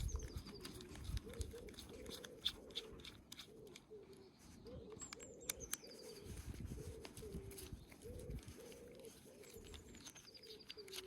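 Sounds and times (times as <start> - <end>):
pigeons cooing: 0.0 - 11.0
small bird chirping: 0.0 - 11.0.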